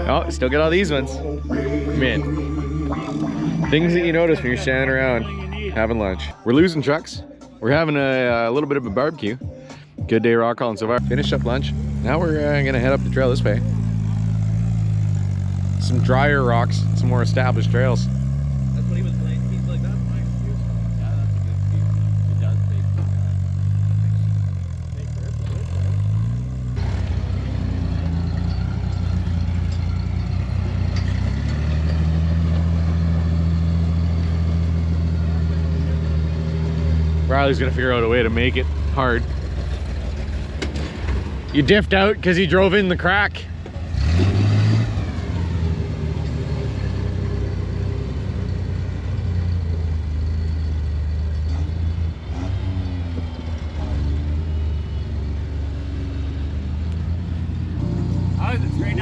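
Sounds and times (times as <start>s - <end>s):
engine running at low revs: 0.0s - 6.4s, 11.0s - 59.0s.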